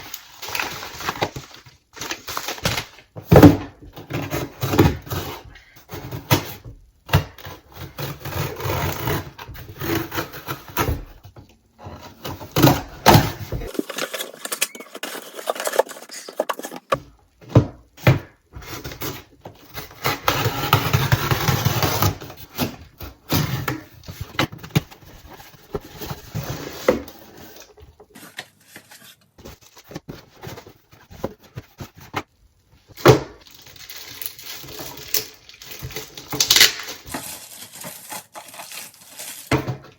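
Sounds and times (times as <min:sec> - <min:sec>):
computer parts and packaging handled: 0:00.0 - 0:06.6, 0:11.8 - 0:39.9.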